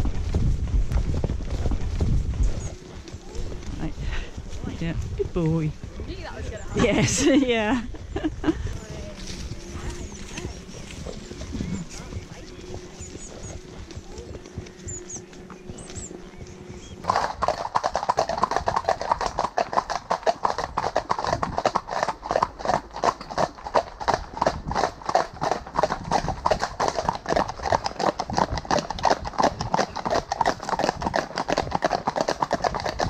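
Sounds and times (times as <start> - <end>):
horse hooves clip-clopping on tarmac: 0.0 - 33.0.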